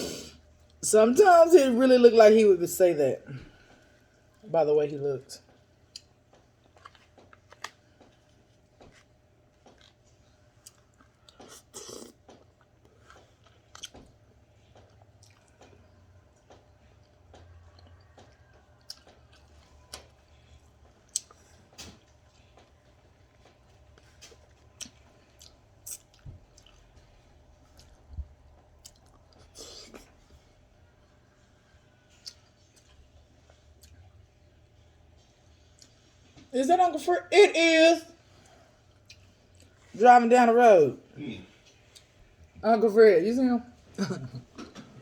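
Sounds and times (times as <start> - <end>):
person chewing food quietly: 0.0 - 0.8, 3.4 - 4.4, 5.4 - 36.5, 38.2 - 40.0, 41.1 - 42.6.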